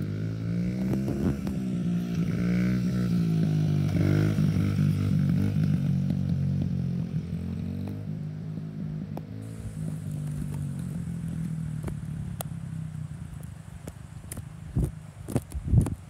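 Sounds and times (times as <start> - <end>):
dirt bike engine: 0.0 - 15.5.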